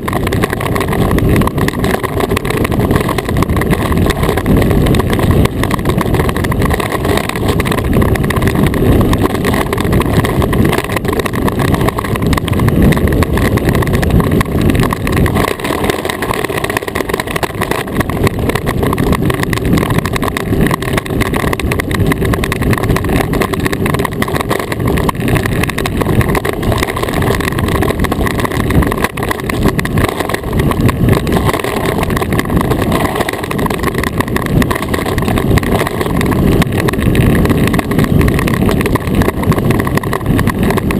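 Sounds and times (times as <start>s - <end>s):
iceboat runners rumbling on ice: 0.0s - 40.9s.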